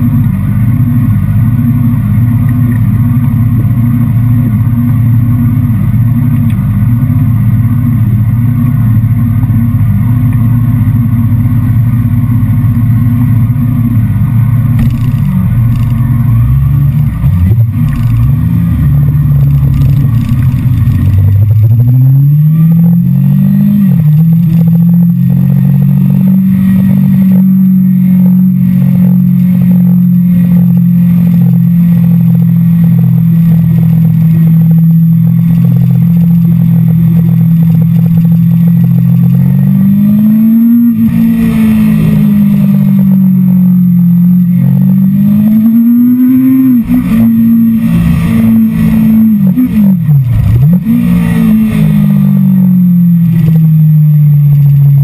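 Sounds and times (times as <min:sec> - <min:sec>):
motorcycle engine revving: 0:10.9 - 0:55.0.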